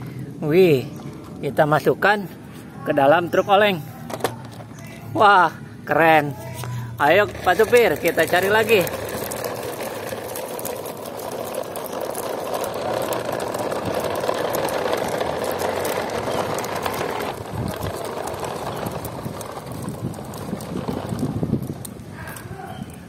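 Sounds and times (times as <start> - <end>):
toy truck wheels rolling on asphalt: 0.2 - 23.0.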